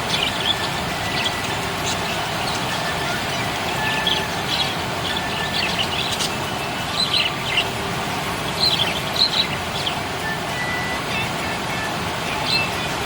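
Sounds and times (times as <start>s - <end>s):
budgerigars chirping: 0.0s - 7.7s, 8.5s - 12.9s
steady background hiss: 0.0s - 13.0s.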